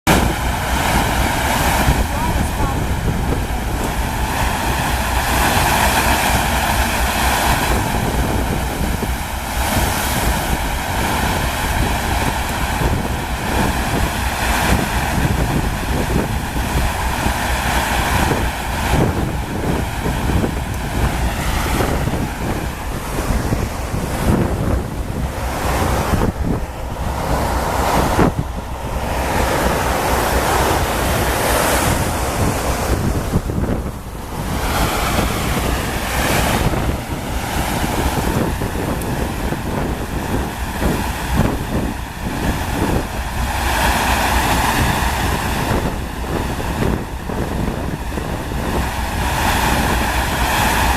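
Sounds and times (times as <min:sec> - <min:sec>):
water rushing: 0:00.0 - 0:50.9
wind buffeting microphone: 0:00.1 - 0:50.9.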